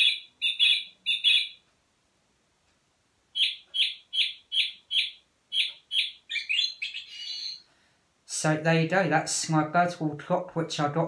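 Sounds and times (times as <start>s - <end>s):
recorded song thrush song: 0.0s - 11.0s.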